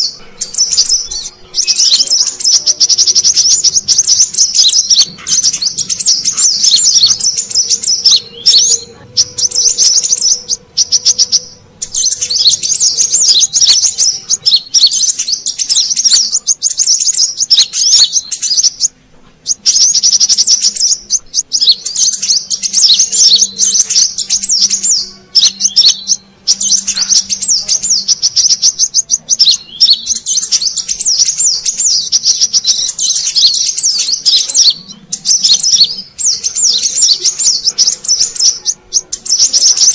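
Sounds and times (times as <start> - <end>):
sunbird twittering chirps: 0.0 - 39.9.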